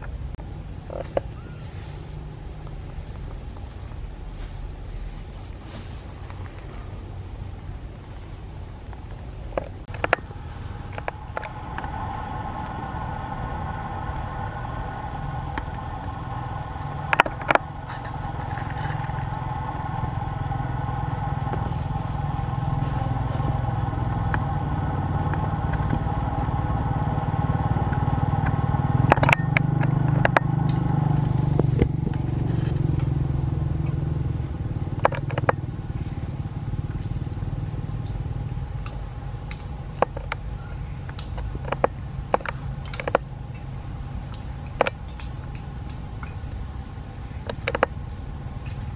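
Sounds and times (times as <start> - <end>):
motor engine running: 0.0 - 48.9.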